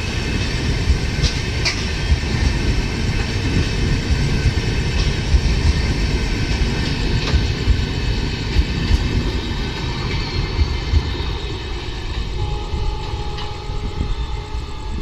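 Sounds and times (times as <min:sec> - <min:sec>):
passenger train rumbling past: 0:00.0 - 0:15.0
rail clicks: 0:00.0 - 0:15.0.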